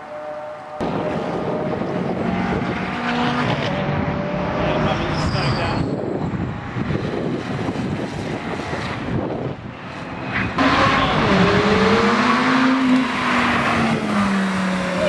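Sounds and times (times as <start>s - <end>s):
car engine revving: 0.7s - 15.0s.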